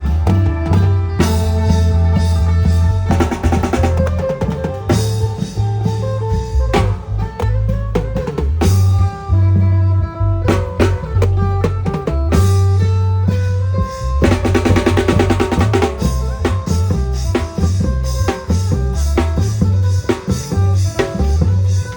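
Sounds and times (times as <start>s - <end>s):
loud drum band music: 0.0s - 21.9s.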